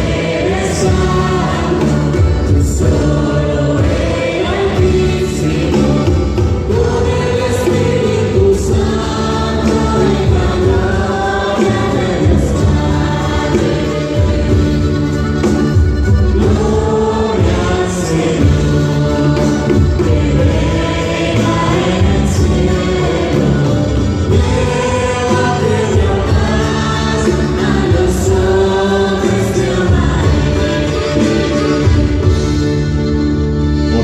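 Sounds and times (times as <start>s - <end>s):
choir singing worship song: 0.0s - 34.0s
instrumental accompaniment with bass: 0.0s - 34.0s.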